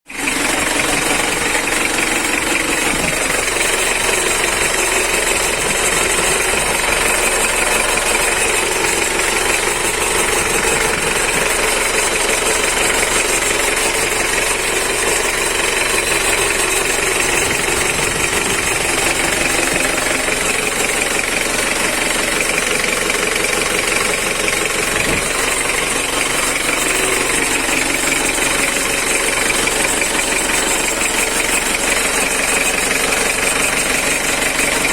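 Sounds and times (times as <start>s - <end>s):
diesel engine clattering knock: 0.1s - 34.9s.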